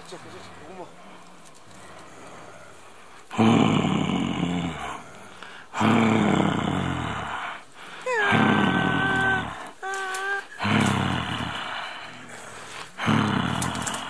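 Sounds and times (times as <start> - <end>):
gorilla rumbling grunts: 0.0 - 14.0.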